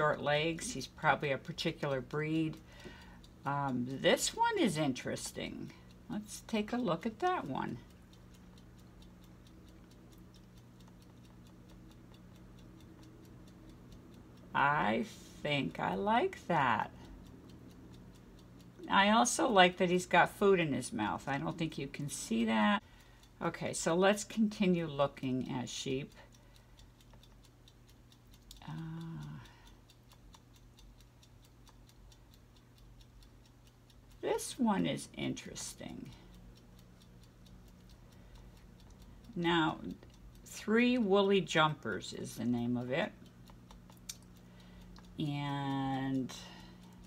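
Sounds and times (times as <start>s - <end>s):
steady low hum: 0.0s - 47.0s
timer ticking: 0.0s - 47.0s.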